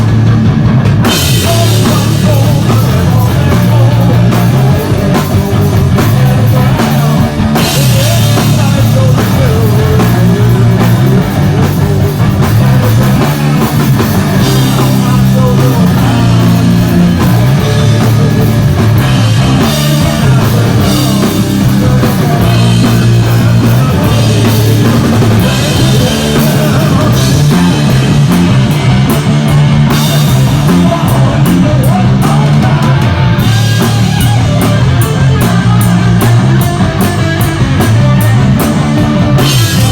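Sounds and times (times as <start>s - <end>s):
bass guitar: 0.0s - 39.9s
distorted electric guitars: 0.0s - 39.9s
drum kit with crashing cymbals: 0.0s - 39.9s.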